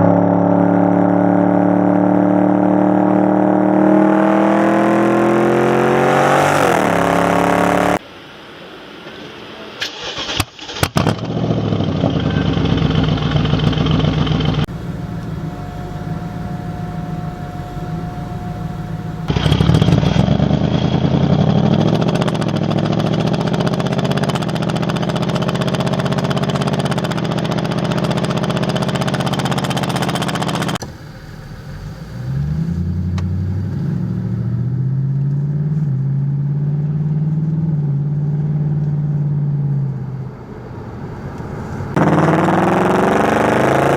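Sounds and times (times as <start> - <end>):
car accelerating through gears: 0.0 - 8.0, 11.0 - 43.9
car engine revving loudly: 0.0 - 8.0, 10.9 - 38.8, 39.6 - 43.9.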